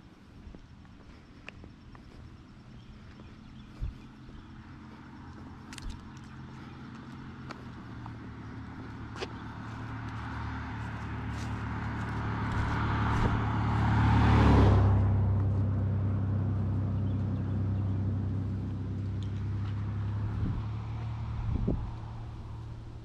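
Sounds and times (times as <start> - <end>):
low engine hum: 0.0 - 23.0
vehicle passing by: 2.1 - 23.0.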